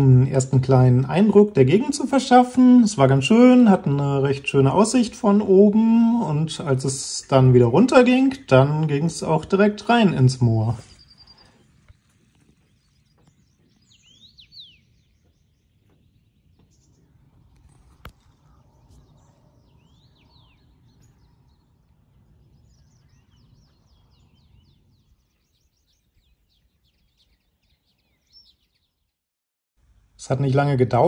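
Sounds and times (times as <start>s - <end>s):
faint birdsong: 0.0s - 29.2s.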